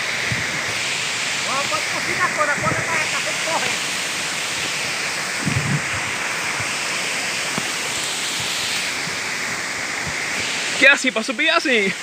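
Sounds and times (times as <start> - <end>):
large waterfall rushing: 0.0 - 12.0.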